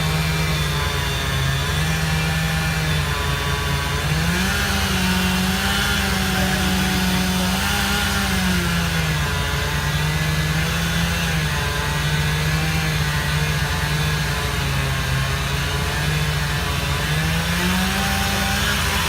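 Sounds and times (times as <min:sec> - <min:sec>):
chainsaw running at high speed: 0:00.0 - 0:19.0.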